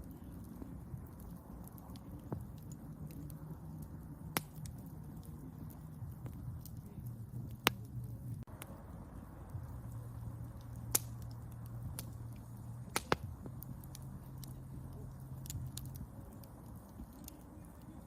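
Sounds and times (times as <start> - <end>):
low steady hum: 0.0 - 18.0
wood fire crackling: 0.0 - 18.0.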